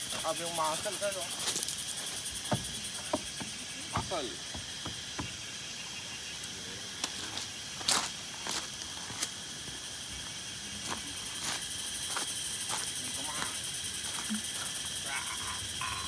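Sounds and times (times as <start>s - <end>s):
high-pitched insect chorus: 0.0s - 16.0s
footsteps crunching on gravel: 0.1s - 5.4s, 7.0s - 14.8s.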